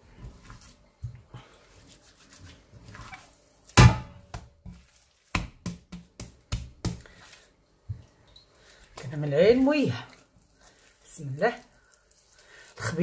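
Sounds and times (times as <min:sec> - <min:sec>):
wet hands slapping dough: 0:00.2 - 0:13.0.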